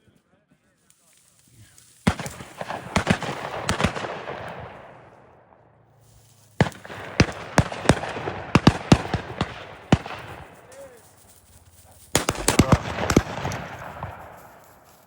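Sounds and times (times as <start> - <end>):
shotguns firing: 2.0 - 5.7, 6.4 - 15.0.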